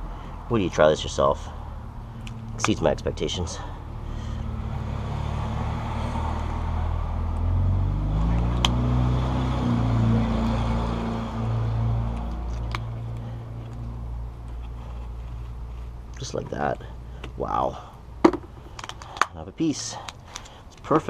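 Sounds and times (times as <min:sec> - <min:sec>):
motor vehicle engine running: 0:01.3 - 0:19.2.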